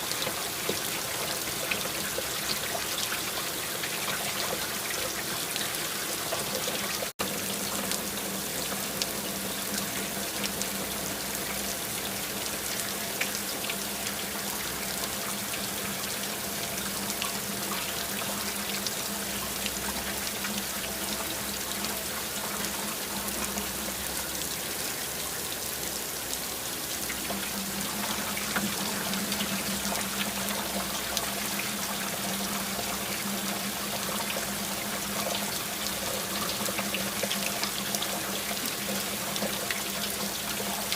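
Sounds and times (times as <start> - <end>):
rain drops ticking: 0.0 - 40.9.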